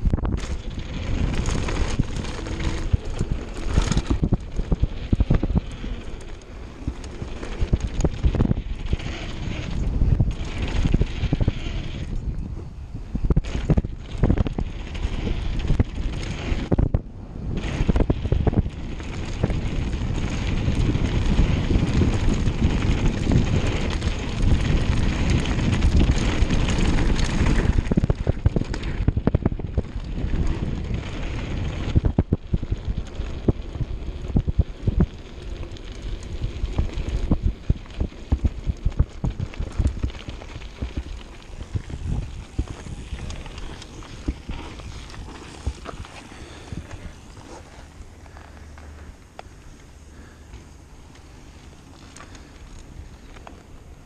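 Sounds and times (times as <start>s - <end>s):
tyre rumble on gravel: 0.0s - 12.1s, 17.6s - 54.0s
bike rattling over bumps: 0.0s - 54.0s
wind noise on microphone: 0.0s - 54.0s.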